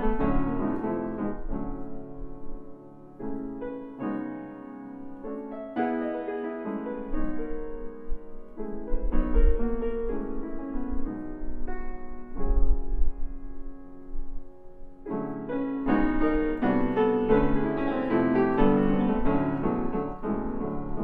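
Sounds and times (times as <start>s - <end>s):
grand piano playing slowly: 0.0s - 21.0s.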